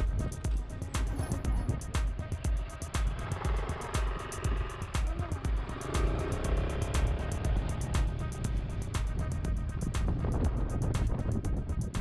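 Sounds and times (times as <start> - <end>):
hi-hat ticks: 0.0 - 12.0
kick drum: 0.0 - 12.0.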